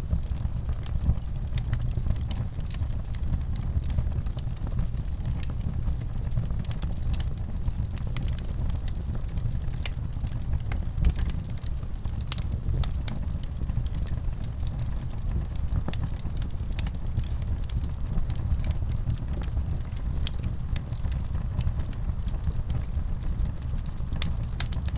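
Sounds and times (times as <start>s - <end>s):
fire crackling and popping: 0.0s - 24.9s
low rumble of flames: 0.0s - 24.9s.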